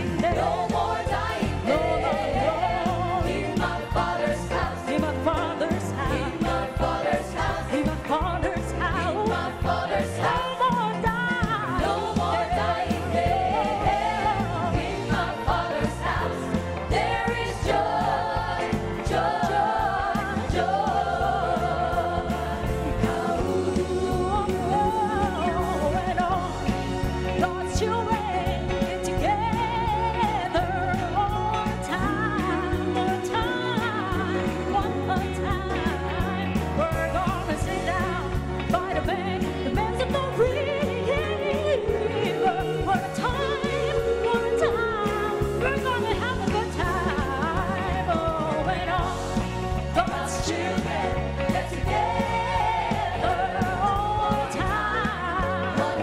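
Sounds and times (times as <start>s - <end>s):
choir singing gospel: 0.0s - 56.0s
electric bass and guitar: 0.0s - 56.0s
piano: 0.0s - 56.0s
woman singing lead: 0.0s - 56.0s.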